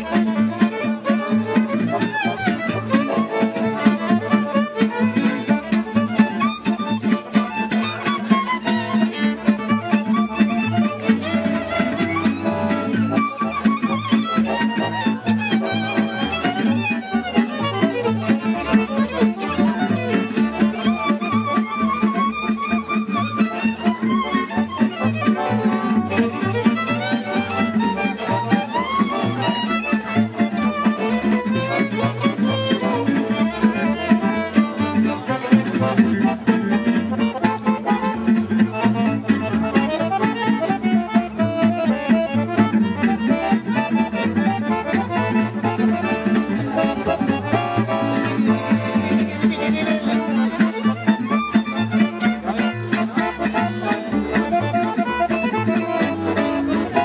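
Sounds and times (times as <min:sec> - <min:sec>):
acoustic guitar rhythm: 0:00.0 - 0:57.0
plucked double bass: 0:00.0 - 0:57.0
violin playing fast melody: 0:00.0 - 0:57.0.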